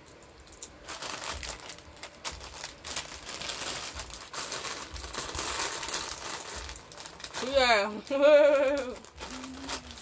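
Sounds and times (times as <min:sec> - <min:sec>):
plastic packets crinkling: 0:00.0 - 0:10.0.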